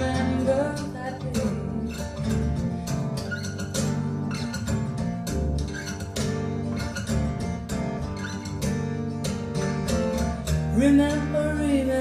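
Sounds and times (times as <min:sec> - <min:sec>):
bass: 0:00.0 - 0:12.0
strummed acoustic guitar: 0:00.0 - 0:12.0.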